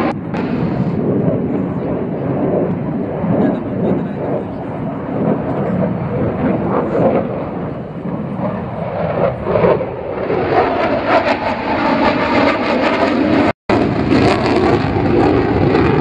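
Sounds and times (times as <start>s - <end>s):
jet aircraft rumble: 0.0s - 16.0s.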